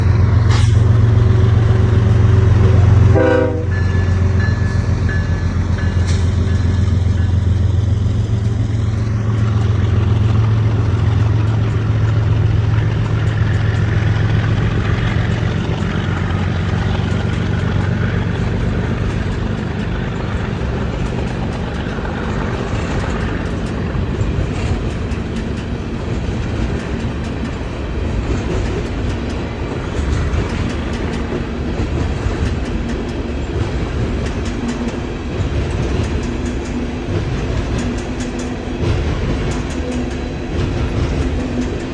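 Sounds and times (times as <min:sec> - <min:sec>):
locomotive engine rumble: 0:00.0 - 0:41.9
train wheels clattering over rail joints: 0:00.0 - 0:41.9.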